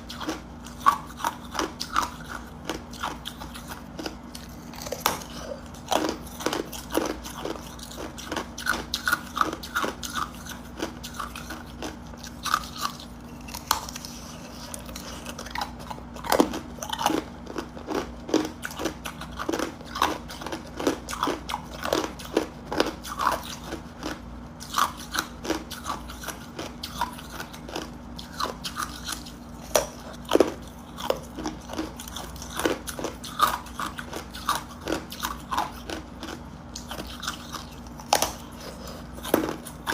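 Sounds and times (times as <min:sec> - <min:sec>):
ice cubes crunching between teeth: 0:00.0 - 0:39.9.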